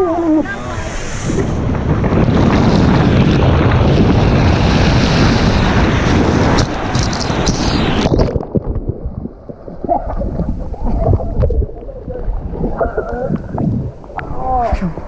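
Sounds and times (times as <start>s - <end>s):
air and water rushing: 0.0s - 15.0s
water splashing: 0.0s - 15.0s.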